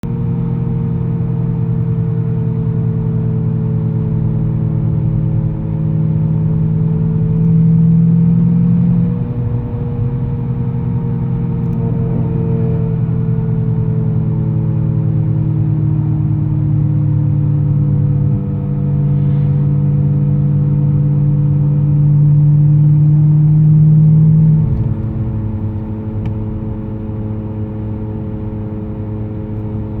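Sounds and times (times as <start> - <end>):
car engine drone: 0.0 - 30.0
high-pitched engine whine: 0.1 - 30.0.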